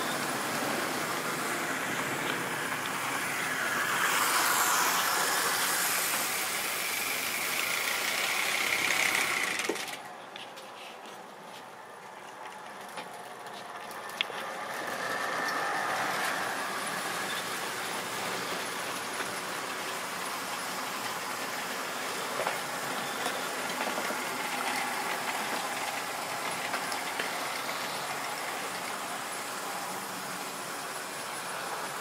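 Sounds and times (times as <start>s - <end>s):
model train running on rails: 0.0s - 32.0s.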